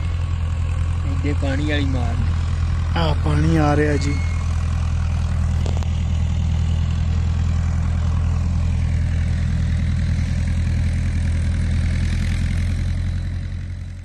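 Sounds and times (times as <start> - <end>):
farm engine running steadily: 0.0 - 14.0.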